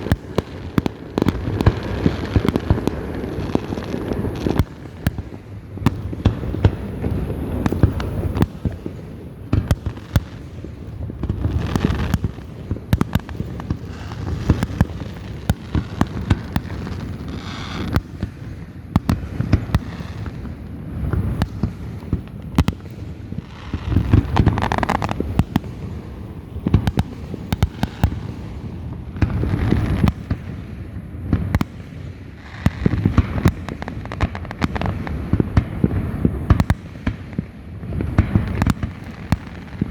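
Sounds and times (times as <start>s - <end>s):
fireworks cracks and pops: 0.0s - 39.9s
rolling firework booms: 0.0s - 39.9s.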